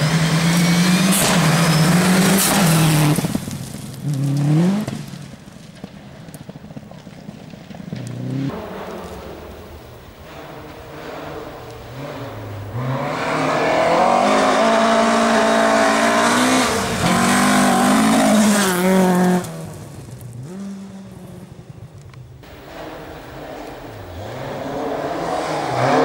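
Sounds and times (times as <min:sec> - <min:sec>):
rally car passing at speed: 0:00.0 - 0:06.0, 0:07.7 - 0:26.0.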